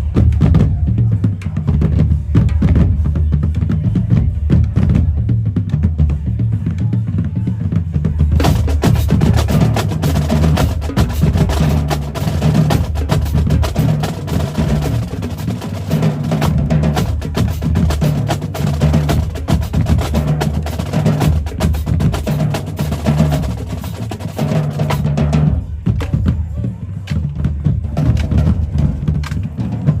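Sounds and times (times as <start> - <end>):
bass drum notes: 0.0 - 30.0.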